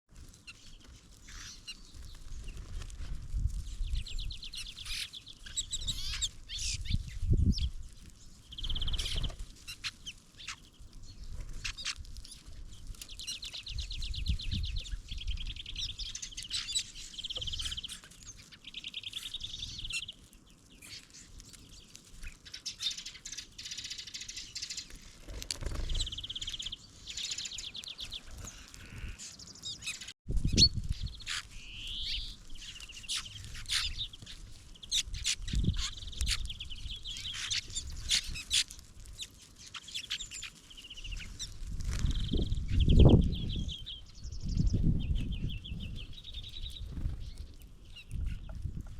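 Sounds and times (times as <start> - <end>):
bird chirps and clicks: 0.3 - 2.8, 3.4 - 48.9
small birds trilling: 0.3 - 48.9.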